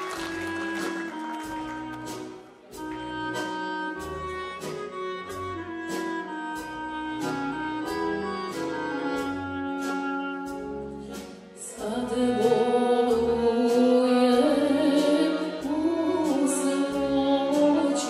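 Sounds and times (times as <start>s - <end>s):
accordion and woodwind melody: 0.0s - 18.0s.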